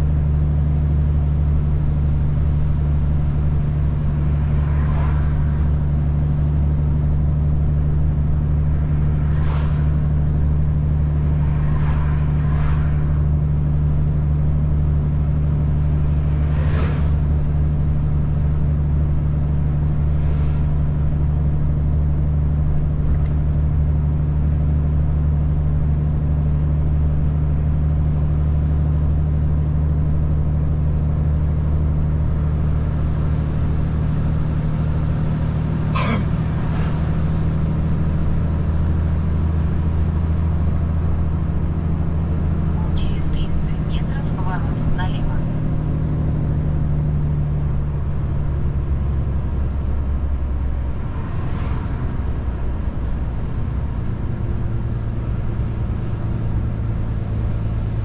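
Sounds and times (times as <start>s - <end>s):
car engine and road drone: 0.0s - 58.0s.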